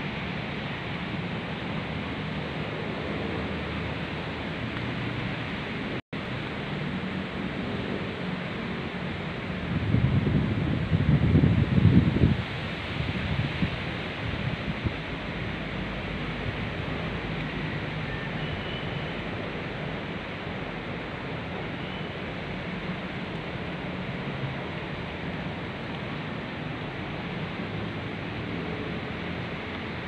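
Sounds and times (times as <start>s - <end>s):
wind rustling palm trees: 0.0s - 30.0s.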